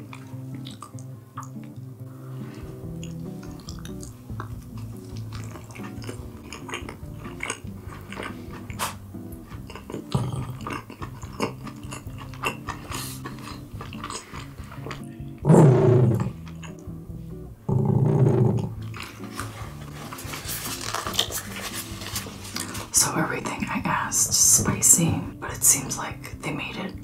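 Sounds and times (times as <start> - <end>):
wet chewing and mouth sounds: 0.0 - 17.4, 18.4 - 25.9
quiet background music: 0.0 - 27.0.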